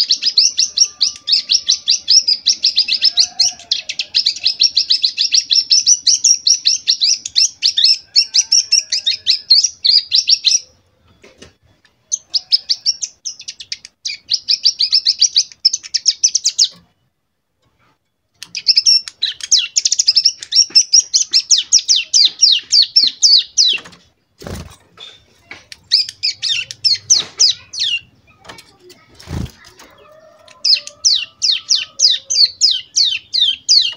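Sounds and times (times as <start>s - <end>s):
bird rapid trilling song: 0.0s - 10.7s, 12.1s - 16.8s, 18.4s - 33.9s.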